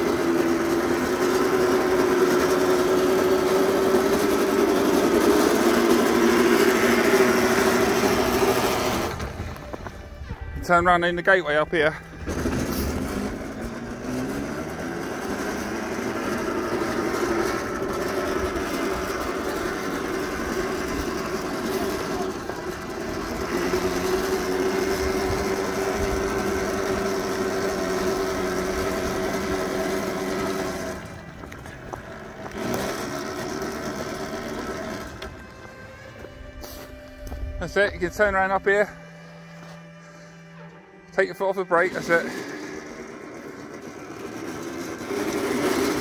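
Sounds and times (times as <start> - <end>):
electric motor whining: 0.0 - 46.0.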